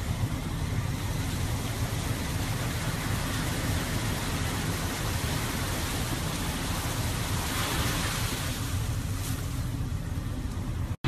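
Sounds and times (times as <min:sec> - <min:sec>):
ocean surf washing: 0:00.0 - 0:10.9
low rumble: 0:00.0 - 0:11.0
wave breaking and splashing: 0:00.2 - 0:09.9.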